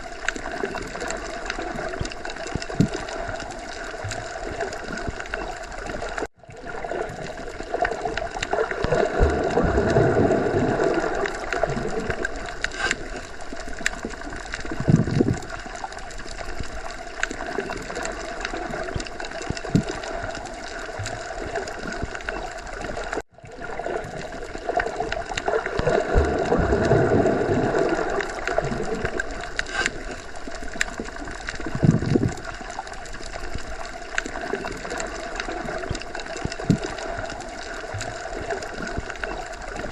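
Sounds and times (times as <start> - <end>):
low water surge: 0.0 - 39.9
underwater moving water: 0.0 - 39.9.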